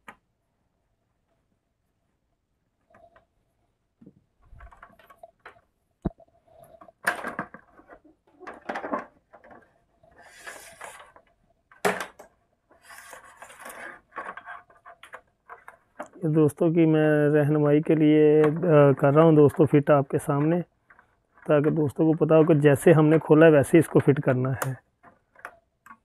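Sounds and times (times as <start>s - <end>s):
plastic parts scraping and clicking: 4.0s - 16.8s, 17.5s - 26.0s.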